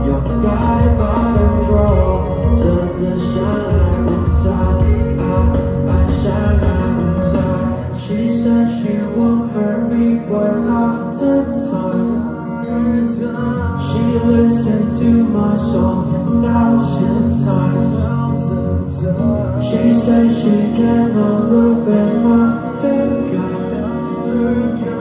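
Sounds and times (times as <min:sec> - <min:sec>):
amplified band playing: 0:00.0 - 0:25.0
person singing into a microphone: 0:00.0 - 0:25.0.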